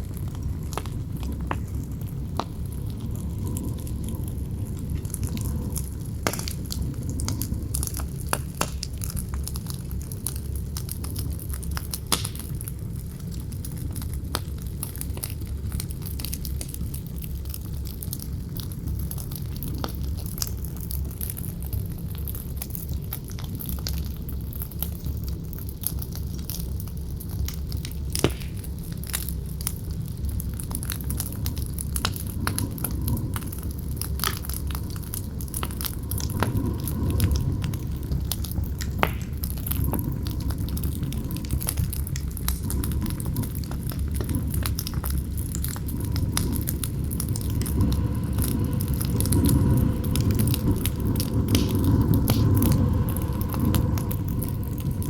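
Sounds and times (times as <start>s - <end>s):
campfire crackling and popping: 0.0s - 55.0s
low howling wind: 0.0s - 55.0s.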